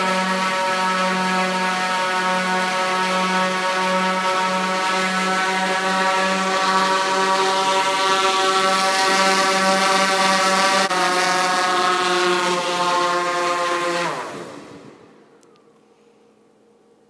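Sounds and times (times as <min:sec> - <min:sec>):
drone motors humming: 0:00.0 - 0:15.6.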